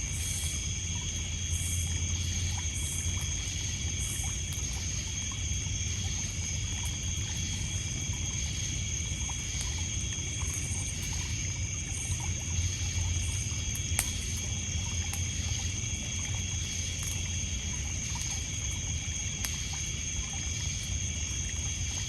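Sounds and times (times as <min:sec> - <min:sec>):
crickets trilling: 0:00.0 - 0:22.0
faint campfire crackles: 0:00.0 - 0:22.0
higher pulsing insect call: 0:00.0 - 0:22.0
water lapping on pebbles: 0:00.1 - 0:22.0.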